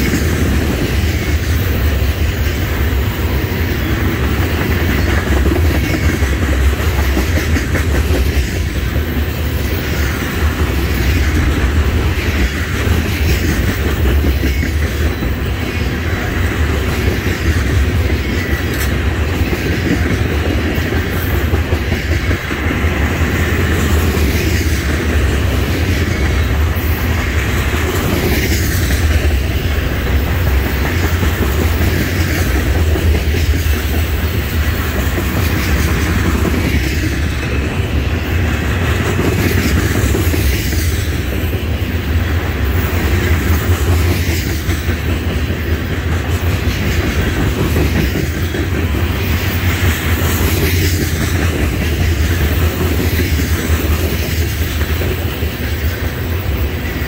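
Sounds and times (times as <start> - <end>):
train wheels rumbling on rail: 0.0 - 57.0
wheels clickety-clack: 0.0 - 57.0.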